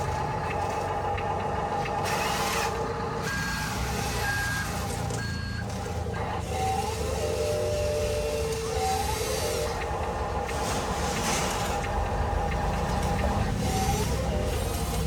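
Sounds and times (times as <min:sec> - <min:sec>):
toy truck reversing beeps: 0:00.0 - 0:15.0
toy truck running noise: 0:00.0 - 0:15.0.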